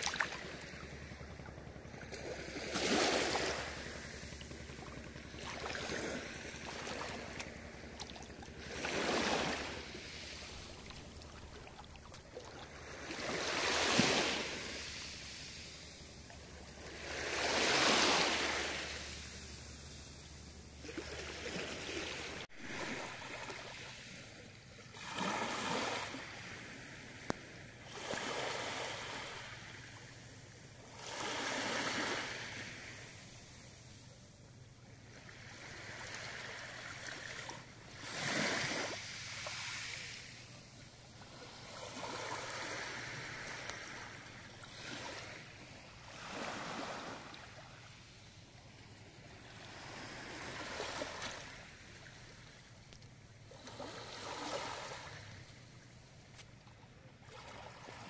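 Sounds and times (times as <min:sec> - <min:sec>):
waves lapping on pebble beach: 0:00.0 - 0:34.2, 0:35.1 - 0:52.7, 0:53.5 - 0:55.5, 0:57.2 - 0:58.0.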